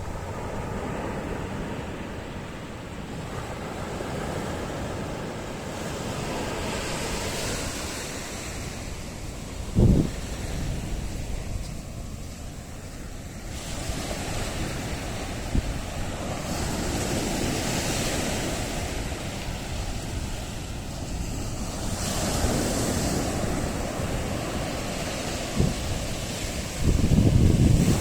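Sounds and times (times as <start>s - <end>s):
ocean waves breaking: 0.0s - 28.0s
wind rumbling on microphone: 0.0s - 28.0s.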